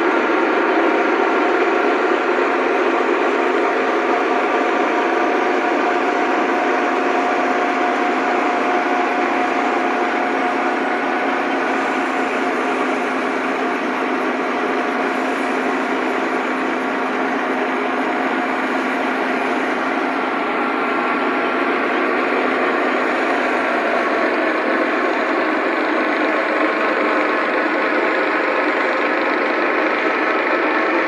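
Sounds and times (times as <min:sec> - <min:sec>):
thresher machine running: 0:00.0 - 0:31.0.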